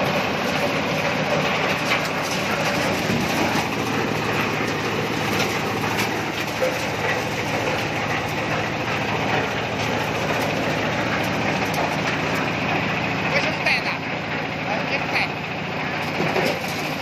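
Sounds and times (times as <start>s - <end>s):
dense mechanical noise: 0.0s - 17.0s
low engine hum: 0.0s - 17.0s.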